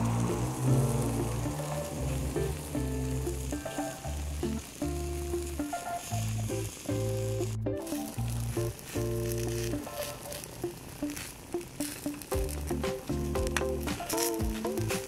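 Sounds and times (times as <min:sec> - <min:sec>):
background music with bass: 0:00.0 - 0:10.0, 0:12.3 - 0:15.0
potato sizzling in frying pan: 0:00.0 - 0:15.0.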